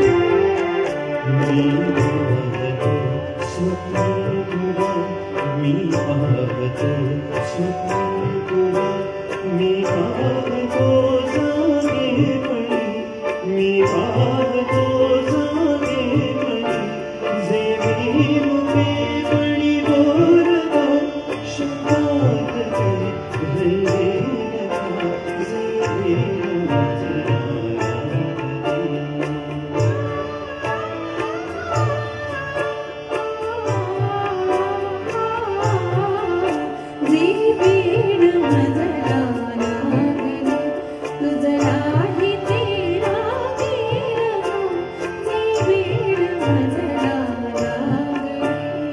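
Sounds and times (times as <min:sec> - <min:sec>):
harmonium: 0:00.0 - 0:48.9
man singing into a microphone: 0:00.0 - 0:48.9
tabla strokes: 0:00.0 - 0:48.9.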